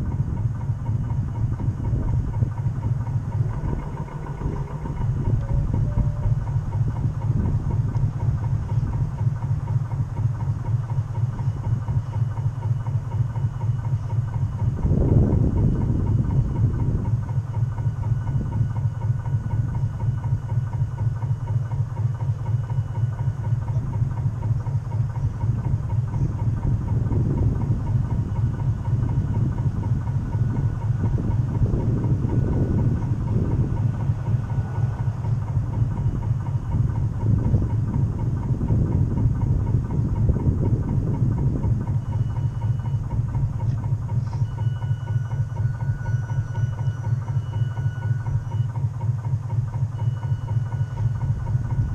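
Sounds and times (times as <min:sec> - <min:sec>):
model boat motor throbbing: 0:00.0 - 0:51.9.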